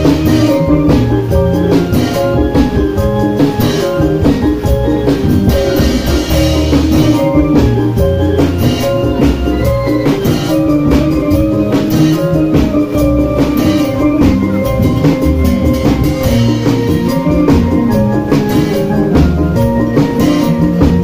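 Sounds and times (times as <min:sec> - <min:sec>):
pitched melody: 0:00.0 - 0:21.0
sticks beating barrel drums: 0:00.0 - 0:21.0.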